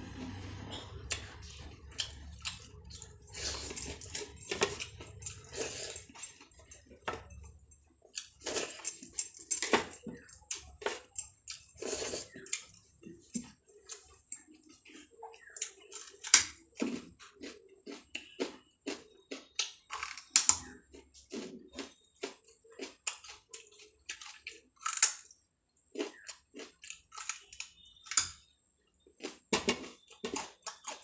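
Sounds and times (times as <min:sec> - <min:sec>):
person chewing and smacking: 0:00.9 - 0:31.0.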